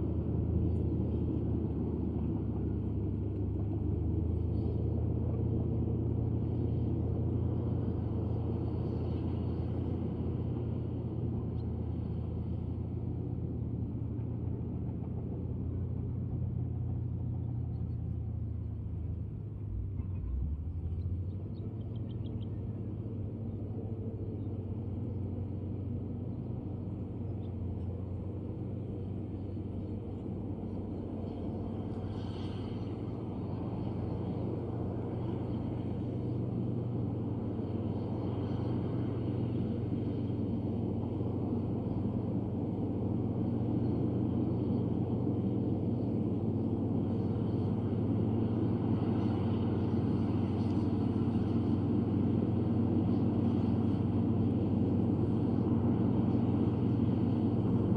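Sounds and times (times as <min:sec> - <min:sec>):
bulldozer diesel engine droning: 0:00.0 - 0:57.9.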